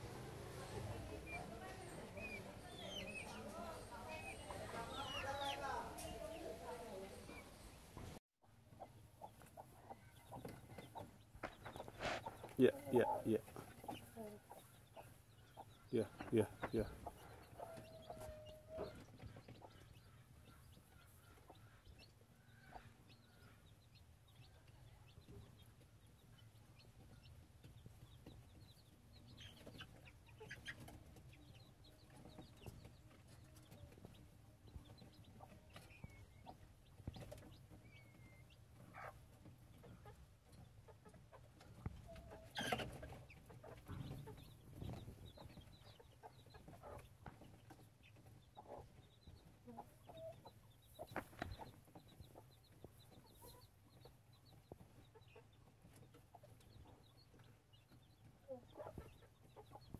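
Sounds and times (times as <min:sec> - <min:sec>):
chicken clucking faintly: 0:00.0 - 0:59.9.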